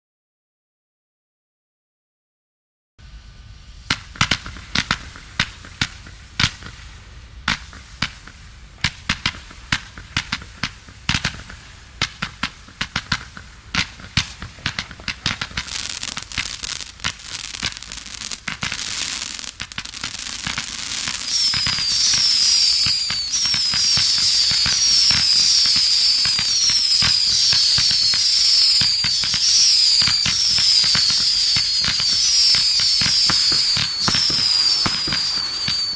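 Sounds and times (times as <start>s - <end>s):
firework launch reports: 3.0s - 35.9s
firework whistles: 3.3s - 35.9s.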